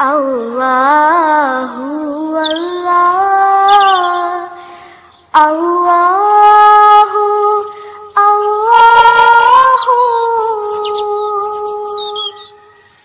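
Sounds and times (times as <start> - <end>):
woman singing long held notes: 0.0 - 12.6.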